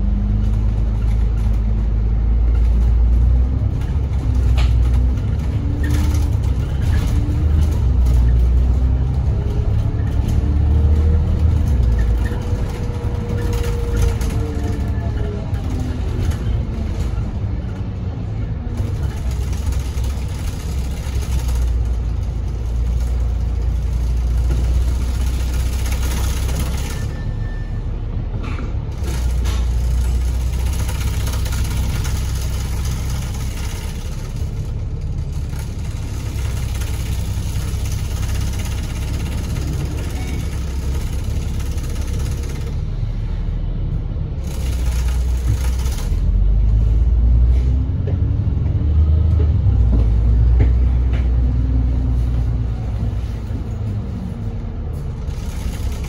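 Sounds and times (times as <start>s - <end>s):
bus engine rumble: 0.0s - 56.0s
road noise: 0.0s - 56.0s.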